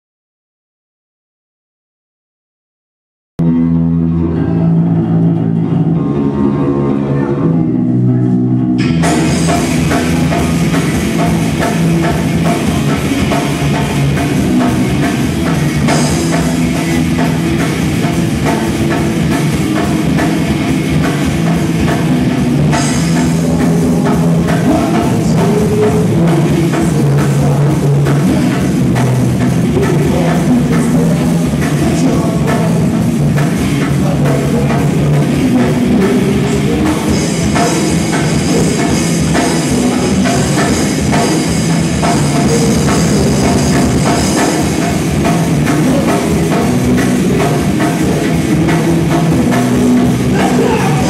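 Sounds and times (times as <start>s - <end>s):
electric guitar and bass: 3.4s - 51.0s
live rock band playing: 3.4s - 51.0s
drum kit and cymbals: 8.8s - 51.0s.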